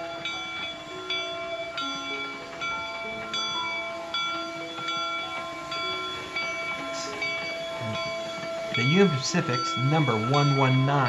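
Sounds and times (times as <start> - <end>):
bell-like melody: 0.0 - 11.0.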